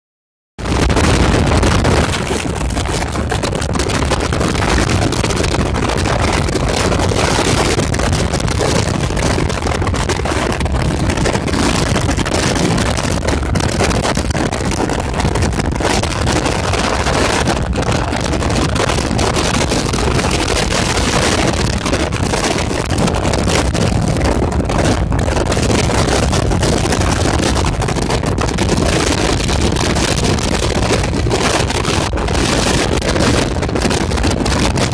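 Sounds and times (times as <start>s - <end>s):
strong wind buffeting microphone: 0.6s - 34.9s.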